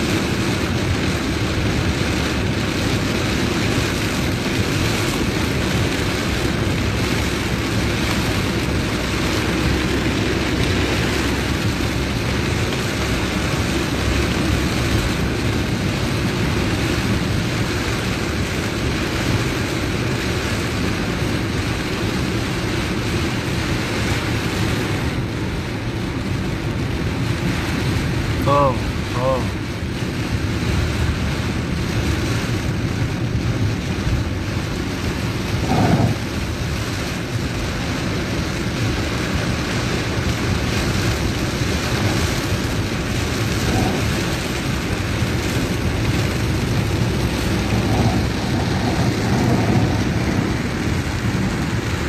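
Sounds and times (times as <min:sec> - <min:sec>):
heavy rain on a car: 0:00.0 - 0:52.0
vehicle road noise: 0:00.0 - 0:52.0.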